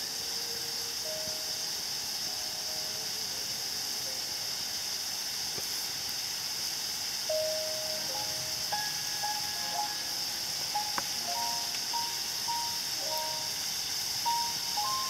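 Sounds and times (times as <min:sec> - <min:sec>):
soft background music: 0:00.0 - 0:05.0, 0:07.3 - 0:15.0
steady high-pitched hiss: 0:00.0 - 0:15.0.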